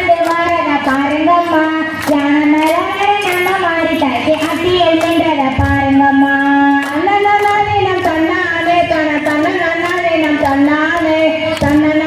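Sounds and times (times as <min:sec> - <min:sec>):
sharp handclaps: 0:00.0 - 0:12.0.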